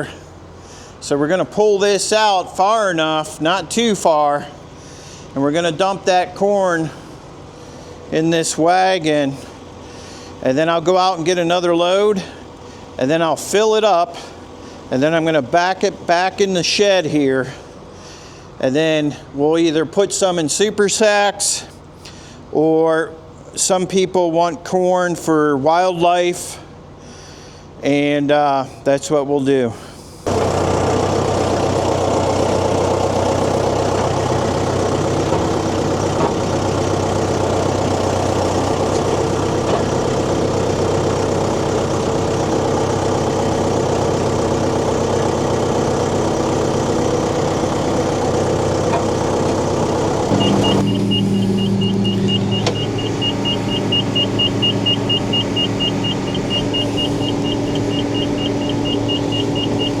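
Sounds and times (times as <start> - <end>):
farm machinery engine running: 0.0 - 18.6, 30.0 - 60.0.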